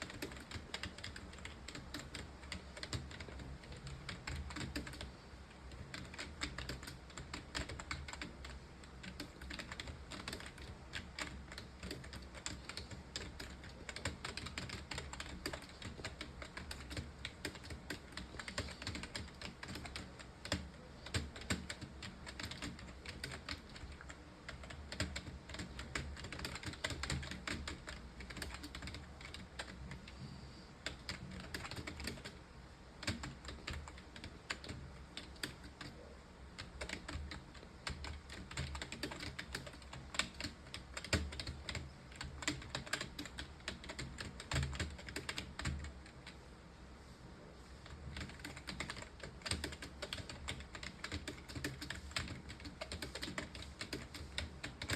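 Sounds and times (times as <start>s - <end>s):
typing on computer keyboard: 0.0s - 5.1s, 5.7s - 30.2s, 30.8s - 32.4s, 33.0s - 46.4s, 47.8s - 54.9s
low steady hum: 0.0s - 54.9s.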